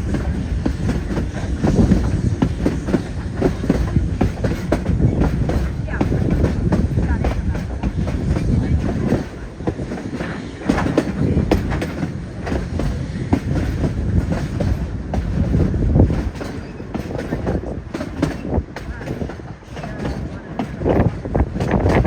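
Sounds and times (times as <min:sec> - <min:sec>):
railway car rumbling on track: 0:00.0 - 0:22.0
wheels clacking on rails: 0:00.0 - 0:22.0.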